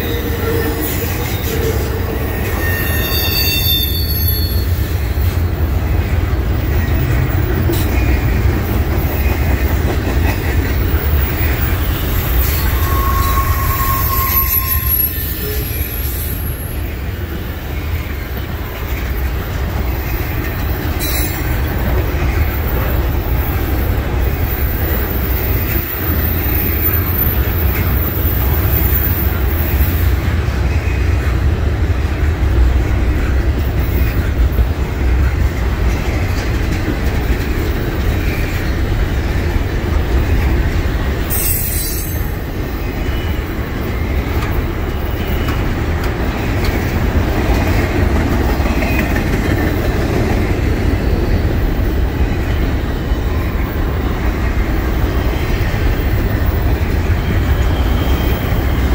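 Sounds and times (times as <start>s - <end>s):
train wheel squeal: 0.0s - 5.4s, 6.7s - 31.3s, 35.9s - 39.0s, 40.2s - 58.9s
train wheels rolling on rails: 0.0s - 58.9s.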